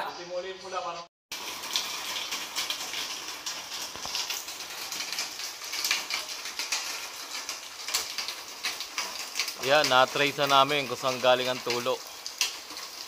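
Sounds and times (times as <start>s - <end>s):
water spray hissing on tiles: 1.3s - 13.0s.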